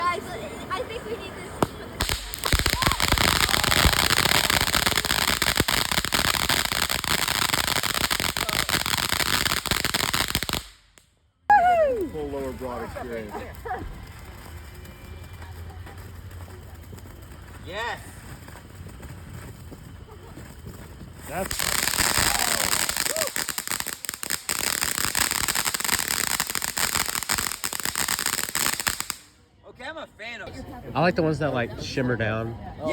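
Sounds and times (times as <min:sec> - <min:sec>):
fireworks crackling: 0:00.0 - 0:29.4.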